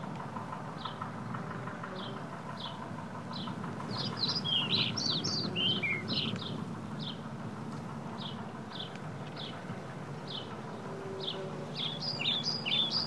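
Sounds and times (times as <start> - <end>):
steady low hum: 0.0 - 13.0
quick varied birdsong: 0.8 - 7.3, 8.1 - 13.0.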